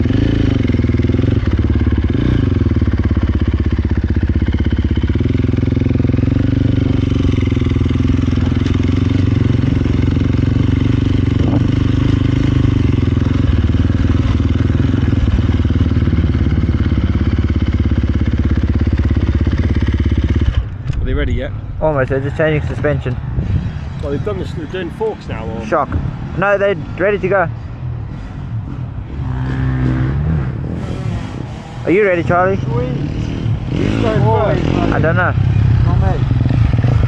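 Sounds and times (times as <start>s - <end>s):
dirt bike engine running: 0.0s - 27.4s, 28.1s - 37.0s.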